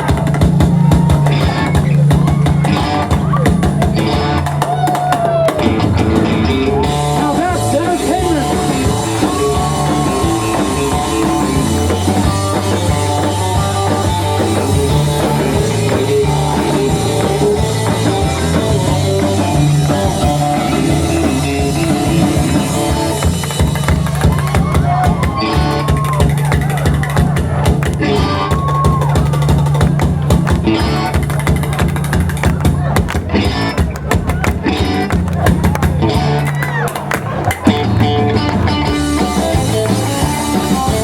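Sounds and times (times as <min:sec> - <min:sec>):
drum kit beat: 0:00.0 - 0:41.0
rock band playing: 0:00.0 - 0:41.0.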